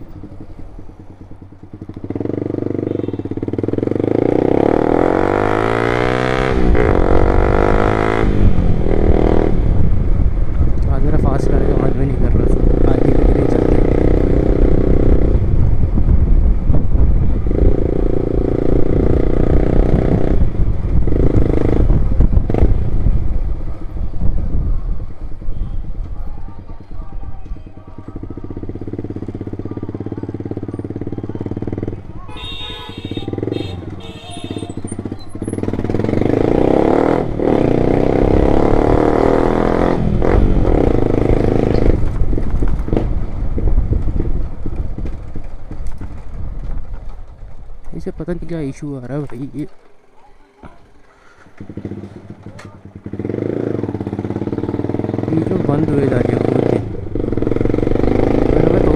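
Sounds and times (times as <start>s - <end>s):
motorcycle engine revving: 0.0s - 24.6s, 27.9s - 58.9s.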